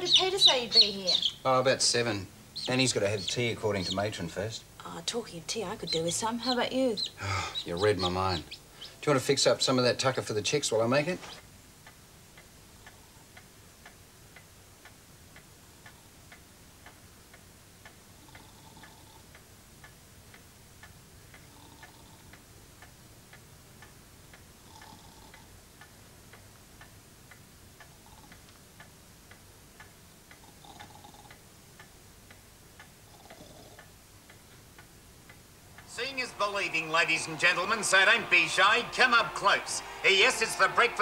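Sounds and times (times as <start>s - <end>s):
clock ticking: 0.0s - 41.0s.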